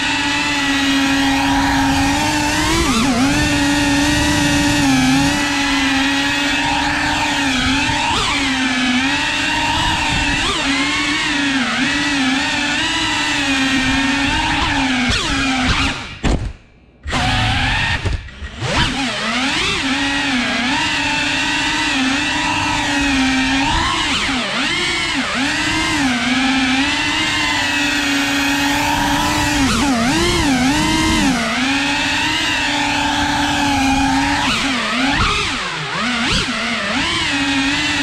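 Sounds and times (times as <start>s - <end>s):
drone motors whining: 0.0s - 16.2s, 17.0s - 38.0s.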